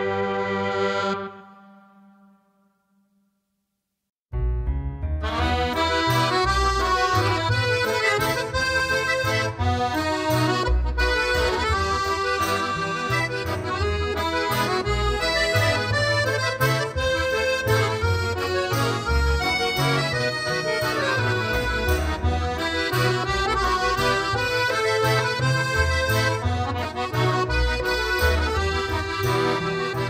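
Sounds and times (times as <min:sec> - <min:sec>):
repeating bass line: 0:04.3 - 0:30.0
instrumental music with a beat: 0:05.1 - 0:30.0.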